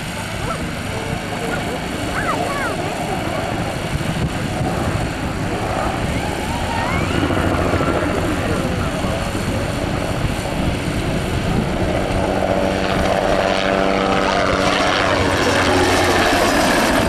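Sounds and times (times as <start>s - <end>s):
helicopter turbine and rotor: 0.0s - 17.0s.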